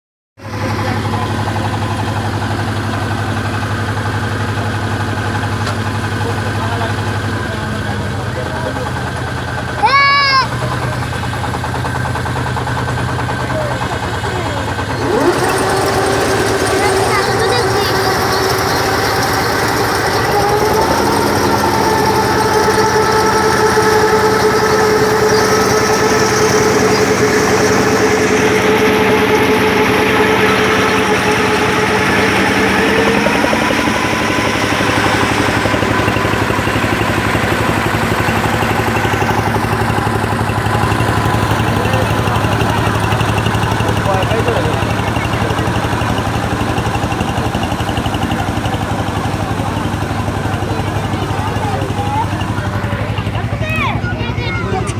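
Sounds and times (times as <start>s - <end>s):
combine harvester running: 0.4s - 54.9s
diesel engine pulsing: 0.4s - 54.9s.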